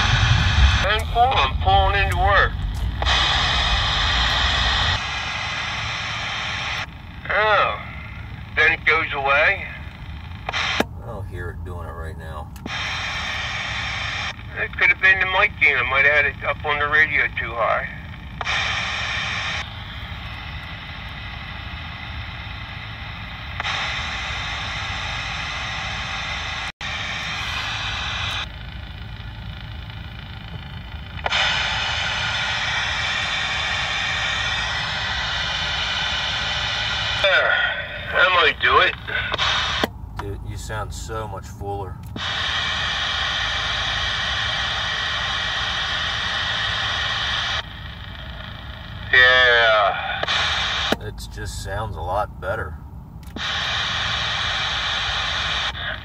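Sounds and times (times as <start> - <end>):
moving vehicle rumble: 0.0 - 56.0
radio receiver hiss: 0.0 - 56.0.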